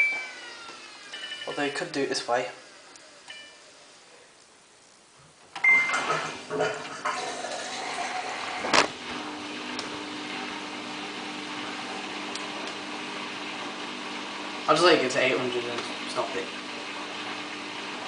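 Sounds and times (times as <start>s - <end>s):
washing machine humming: 0.0s - 3.5s, 5.5s - 18.0s.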